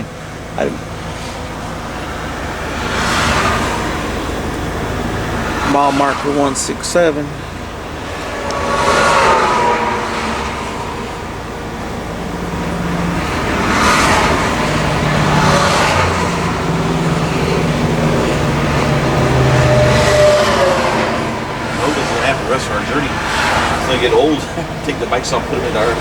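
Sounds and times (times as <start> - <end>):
low engine hum: 0.0 - 26.0
vehicles rushing past: 0.0 - 26.0.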